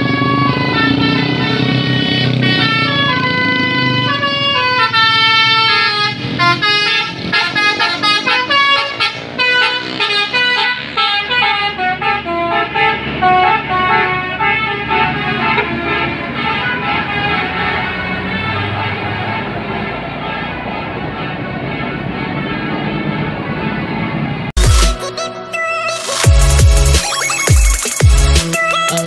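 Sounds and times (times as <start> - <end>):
multi-tone bus horn tune: 0.0 - 27.0, 28.2 - 29.0.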